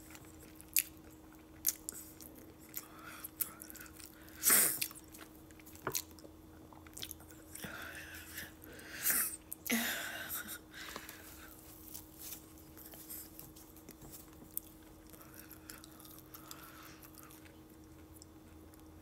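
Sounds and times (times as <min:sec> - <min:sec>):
chewing with wet smacks: 0:00.0 - 0:08.7, 0:11.0 - 0:19.0
faint steady hum: 0:00.0 - 0:19.0.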